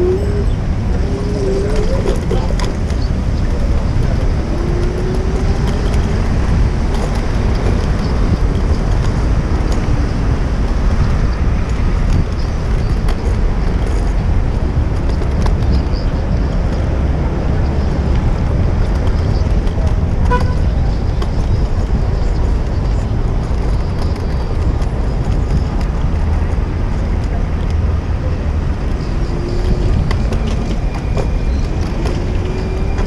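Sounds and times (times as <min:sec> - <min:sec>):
city street traffic: 0:00.0 - 0:33.0
wind rumble on microphone: 0:00.0 - 0:33.0.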